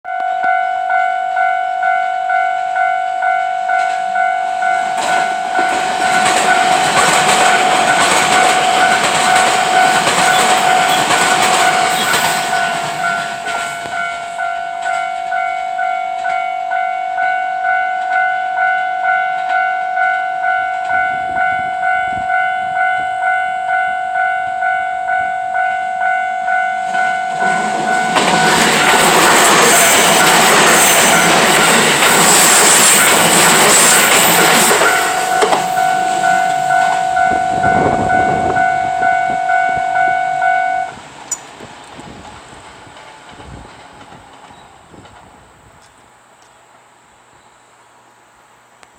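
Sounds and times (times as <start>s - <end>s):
level crossing warning bell: 0.0s - 41.6s
train wheels rushing on rails: 2.6s - 46.1s.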